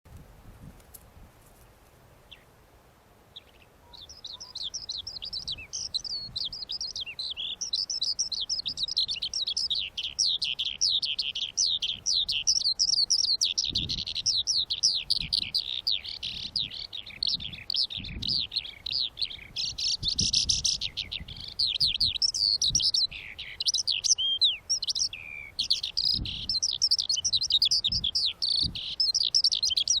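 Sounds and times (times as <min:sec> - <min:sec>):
birds chirping and twittering: 0:02.2 - 0:02.5, 0:03.3 - 0:30.0.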